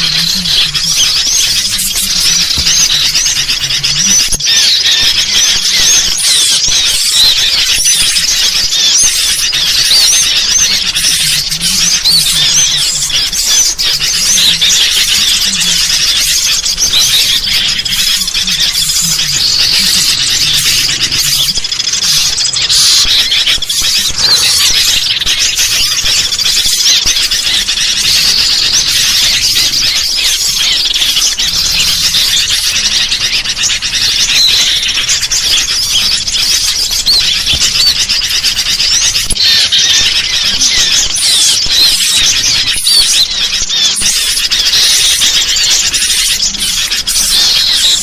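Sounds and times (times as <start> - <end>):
bulbuls chattering: 0.0 - 48.0
small songbirds calling: 0.0 - 48.0.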